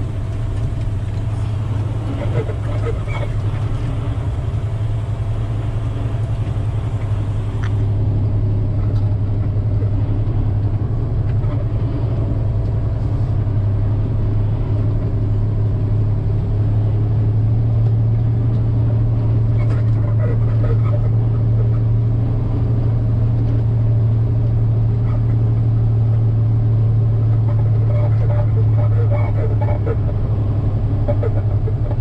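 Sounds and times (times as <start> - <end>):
diesel truck engine drone: 0.0 - 32.0.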